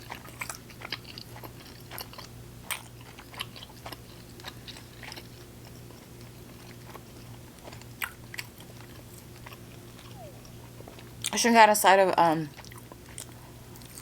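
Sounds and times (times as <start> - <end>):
chewing food: 0.0 - 11.4, 12.5 - 14.0.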